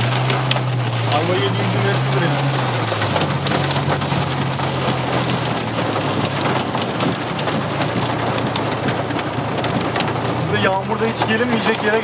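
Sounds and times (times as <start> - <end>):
car engine hum: 0.0 - 12.0
heavy rain on car roof: 0.0 - 12.0.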